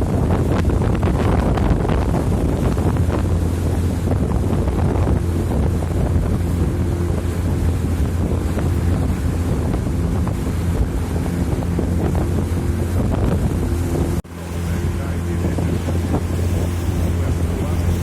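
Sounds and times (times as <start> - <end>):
boat engine humming: 0.0 - 18.0
wind buffeting microphone: 0.0 - 18.0.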